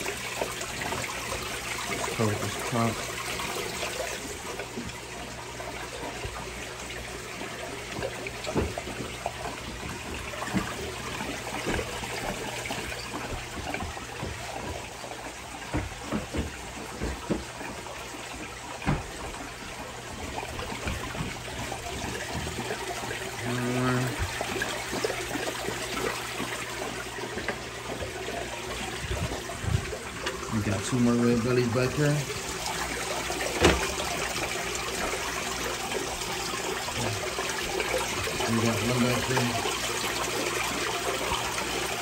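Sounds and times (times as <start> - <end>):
aquarium water trickling: 0.0 - 42.0
short knocks and splashes: 5.9 - 39.8.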